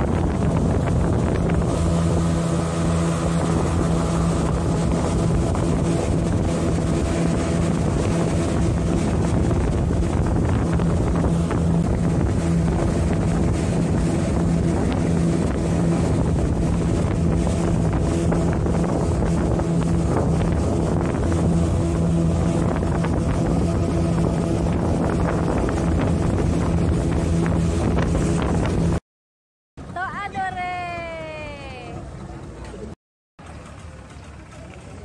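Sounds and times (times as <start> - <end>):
speedboat engine droning: 0.0 - 29.0, 29.8 - 35.0
wind buffeting microphone: 0.0 - 29.0.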